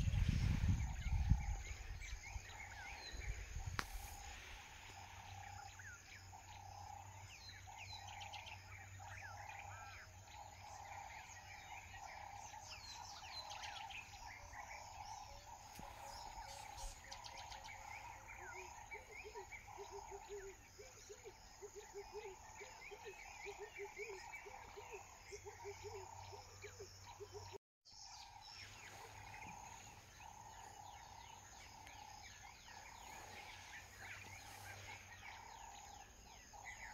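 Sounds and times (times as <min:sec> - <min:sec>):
small birds chirping and trilling: 0:00.0 - 0:36.9.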